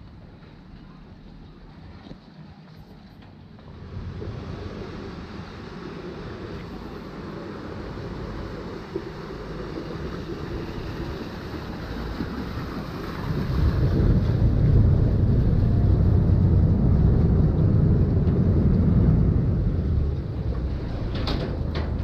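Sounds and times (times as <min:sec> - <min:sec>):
boat engine rumbling: 0:03.3 - 0:22.0
water rushing: 0:03.6 - 0:22.0
wind noise: 0:03.6 - 0:22.0.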